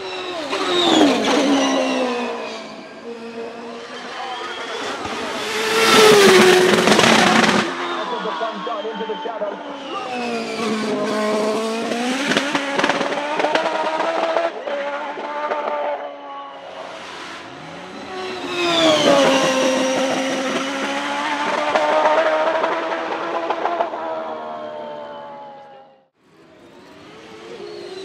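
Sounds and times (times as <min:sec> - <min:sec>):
racing car engine passing: 0:00.0 - 0:28.0.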